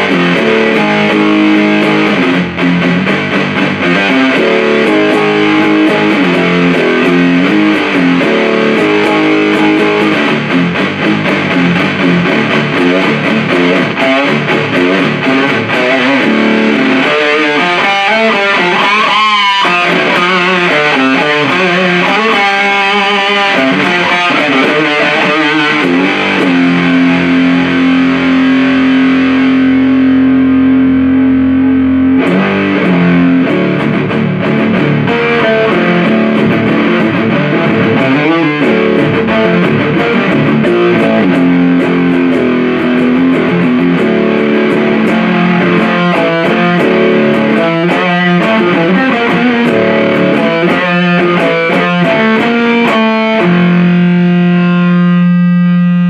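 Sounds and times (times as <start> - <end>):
fuzzed electric guitar riff: 0.0 - 56.0.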